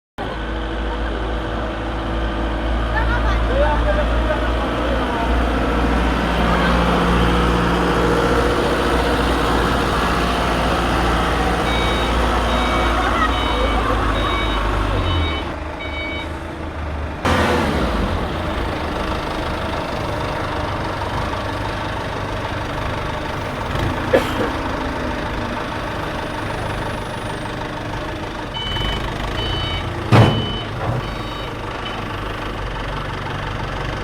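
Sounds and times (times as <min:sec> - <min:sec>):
diesel generator engine running: 0:00.2 - 0:34.0.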